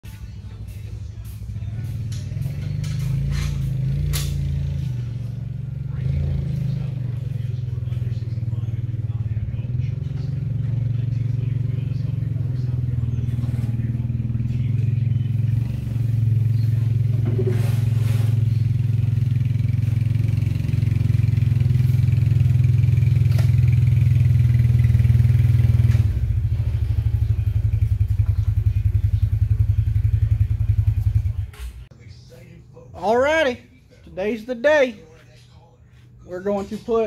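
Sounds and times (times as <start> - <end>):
atv engine running: 0.0 - 31.9.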